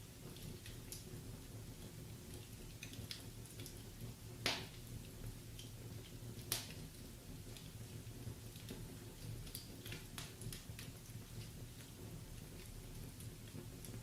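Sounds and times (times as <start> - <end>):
wood fire crackling: 0.0 - 14.0
sharp pops and snaps: 0.2 - 1.2, 1.8 - 7.8, 8.4 - 14.0.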